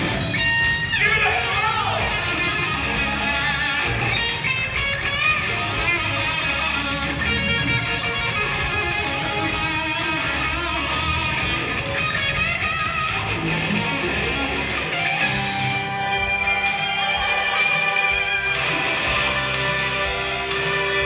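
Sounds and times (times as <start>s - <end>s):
bass guitar: 0.0s - 21.0s
electric guitar: 0.0s - 21.0s
steady beat: 0.0s - 21.0s.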